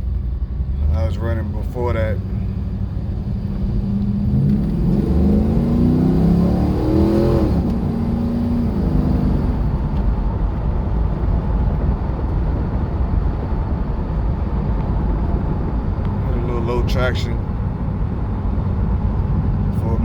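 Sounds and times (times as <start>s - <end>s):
car engine accelerating hard: 0.6s - 20.0s.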